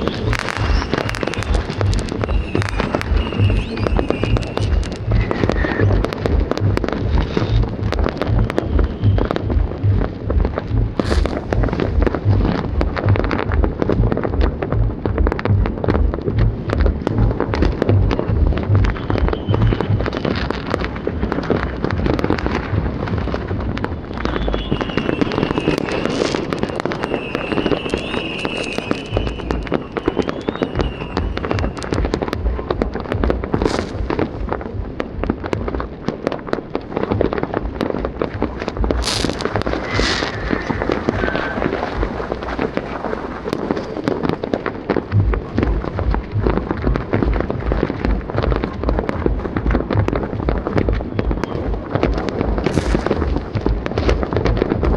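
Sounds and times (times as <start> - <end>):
whistling firework: 0.0 - 10.3, 11.0 - 13.6, 17.8 - 35.7, 36.6 - 54.9
low thuds: 0.0 - 26.9, 29.0 - 54.9
fireworks crackling and banging: 0.0 - 54.9.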